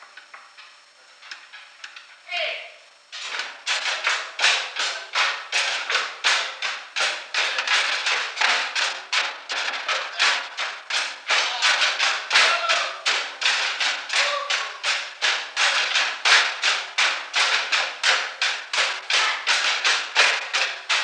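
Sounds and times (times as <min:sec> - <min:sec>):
drumsticks beating tom-toms: 0:03.2 - 0:21.0.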